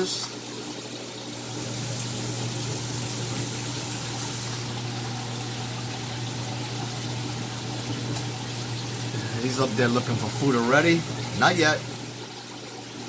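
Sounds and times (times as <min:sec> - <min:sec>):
aquarium pump humming: 0:00.0 - 0:13.0
water rushing and bubbling: 0:00.4 - 0:13.0.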